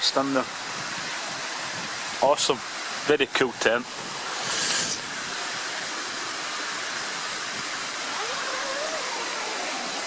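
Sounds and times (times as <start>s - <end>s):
running water rushing: 0.0s - 10.0s.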